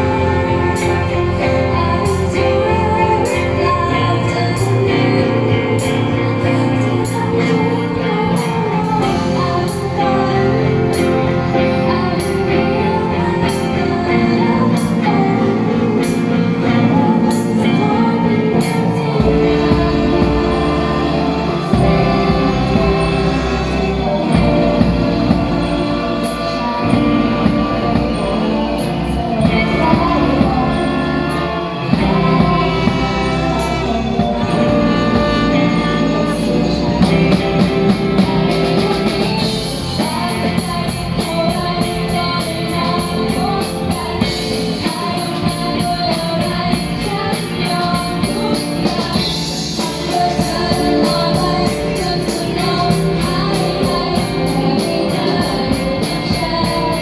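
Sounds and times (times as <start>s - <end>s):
live band playing pop song: 0.0s - 57.0s
person singing: 0.0s - 57.0s.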